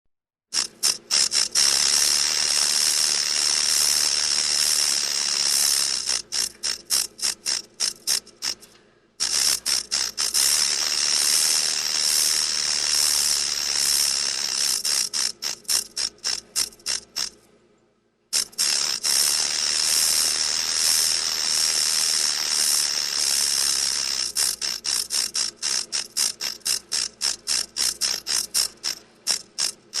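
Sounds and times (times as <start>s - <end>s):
rattlesnake tail rattling: 0.5s - 17.4s, 18.3s - 30.0s.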